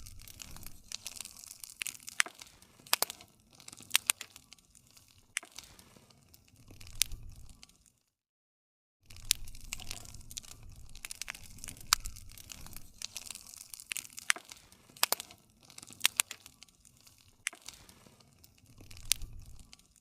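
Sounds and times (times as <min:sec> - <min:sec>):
low rumble of flame: 0:00.0 - 0:07.9, 0:09.0 - 0:20.0
wood fire crackling: 0:00.0 - 0:08.1, 0:09.0 - 0:20.0.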